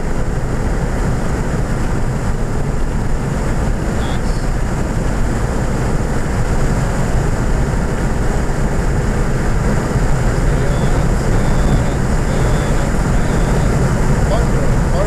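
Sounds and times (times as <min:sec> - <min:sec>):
car engine running hard: 0:00.0 - 0:15.0
road and wind noise: 0:00.0 - 0:15.0.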